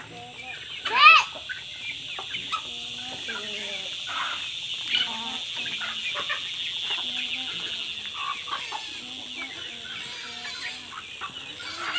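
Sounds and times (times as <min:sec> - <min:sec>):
chickens clucking: 0:00.0 - 0:11.9.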